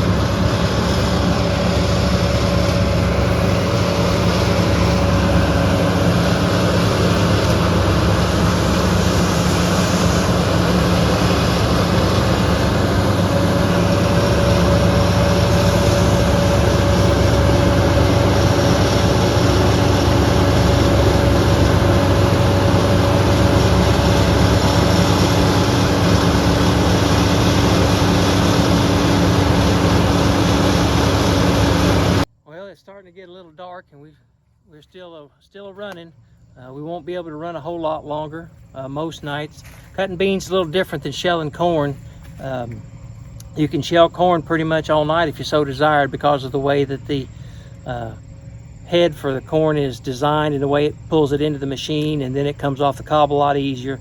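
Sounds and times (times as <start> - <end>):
combine harvester engine drone: 0.0 - 54.0
high machine whine: 0.0 - 54.0.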